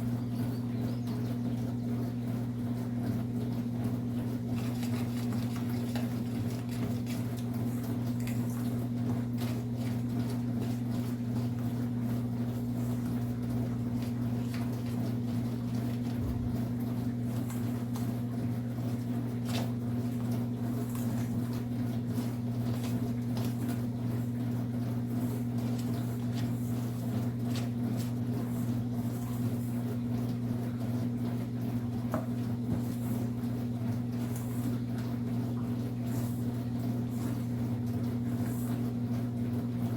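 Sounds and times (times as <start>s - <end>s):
kitchen appliance humming: 0.0s - 39.9s.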